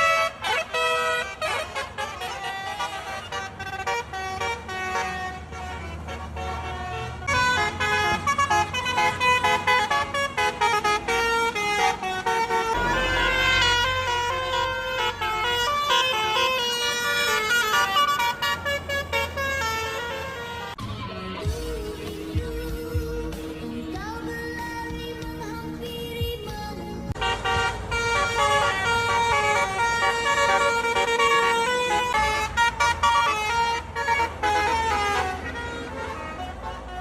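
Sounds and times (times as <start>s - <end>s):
bus musical air horn: 0.0s - 37.0s.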